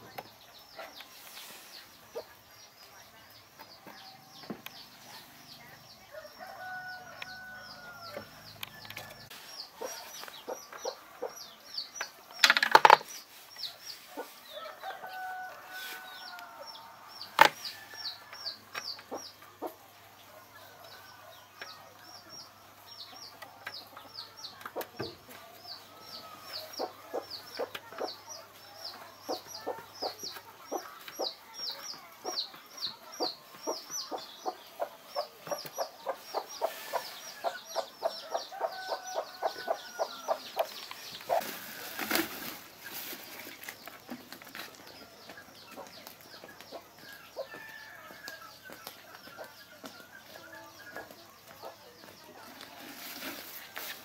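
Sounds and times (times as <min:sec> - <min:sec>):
chickens clucking and chirping: 0:00.0 - 0:54.0.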